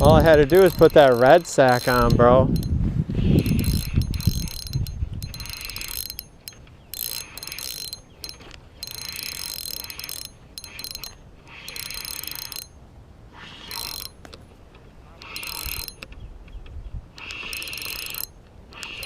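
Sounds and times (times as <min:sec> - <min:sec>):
fishing reel ratcheting: 0:00.0 - 0:12.8, 0:13.5 - 0:14.2, 0:15.2 - 0:16.1, 0:17.1 - 0:19.0.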